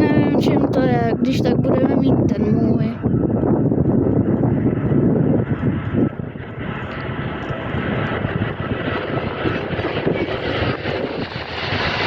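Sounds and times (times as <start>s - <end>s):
jet airliner passing: 0.0s - 12.0s.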